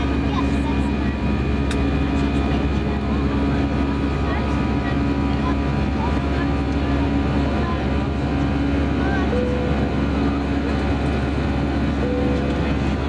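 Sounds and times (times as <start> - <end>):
aircraft cabin engine rush: 0.0 - 13.0
steady hums: 0.0 - 13.0.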